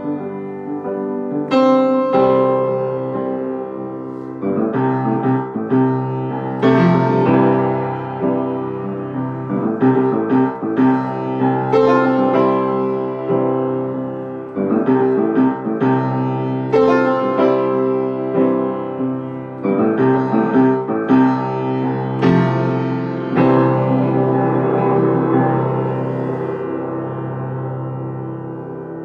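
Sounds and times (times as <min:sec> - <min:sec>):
slow piano chords: 0:00.0 - 0:29.0.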